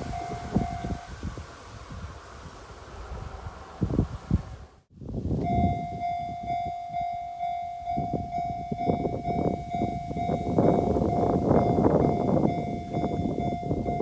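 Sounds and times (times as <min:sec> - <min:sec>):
train rumble and wheel clatter: 0:00.0 - 0:14.0.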